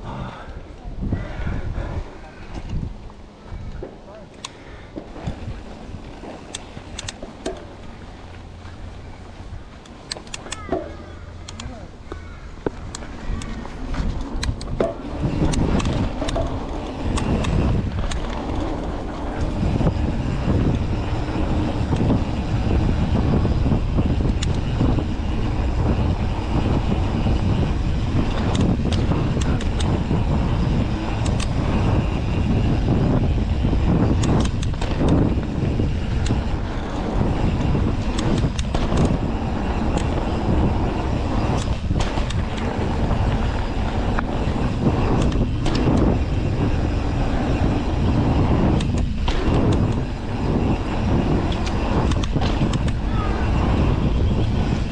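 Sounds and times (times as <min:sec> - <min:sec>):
wind rush on microphone: 0:00.0 - 0:54.9
bike tyres rumbling on dirt: 0:01.1 - 0:10.1, 0:12.0 - 0:54.9
bike rattling over rough ground: 0:01.8 - 0:54.9.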